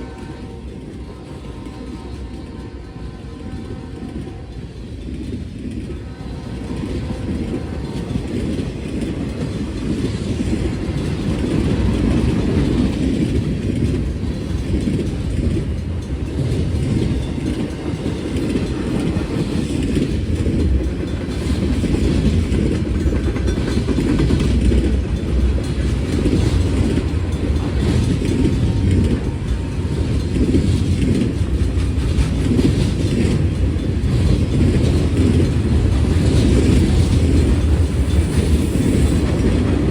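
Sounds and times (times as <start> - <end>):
clickety-clack of train wheels: 0.0 - 39.9
train wheels rumbling on rails: 0.0 - 39.9.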